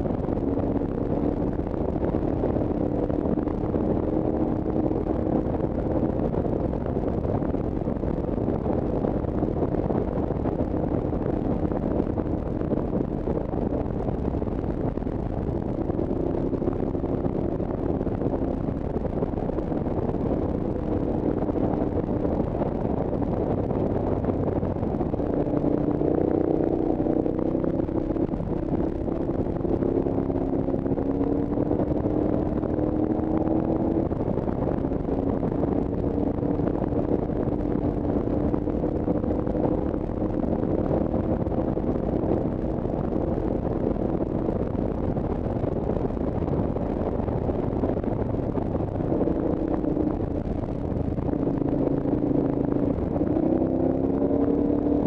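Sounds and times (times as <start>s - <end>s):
road and wind noise: 0.0s - 55.0s
vehicle engine humming: 0.0s - 55.0s.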